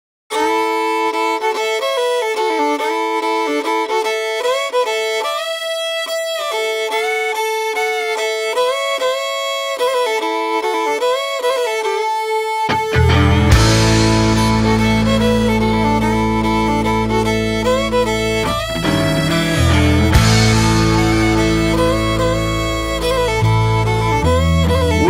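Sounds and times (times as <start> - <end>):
solo fiddle tune with drone: 0.3 - 25.0.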